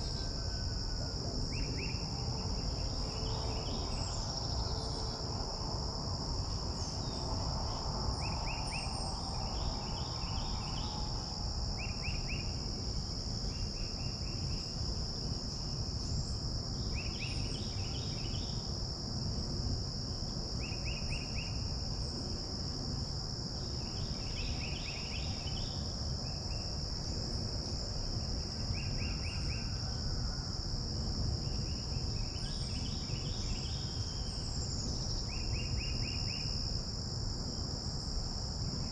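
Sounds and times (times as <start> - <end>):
high-pitched insect chorus: 0.0 - 38.9
rapid insect chirps: 0.0 - 38.9.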